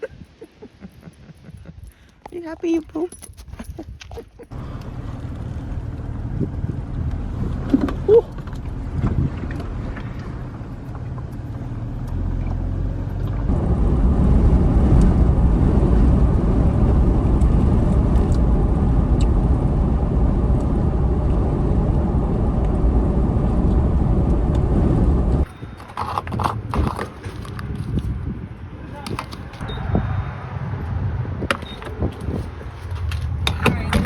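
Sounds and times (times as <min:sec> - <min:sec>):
vehicle driving rumble: 0:04.4 - 0:34.0.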